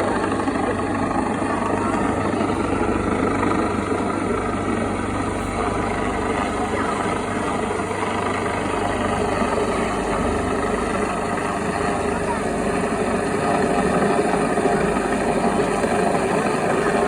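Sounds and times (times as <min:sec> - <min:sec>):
helicopter running: 0:00.0 - 0:17.0.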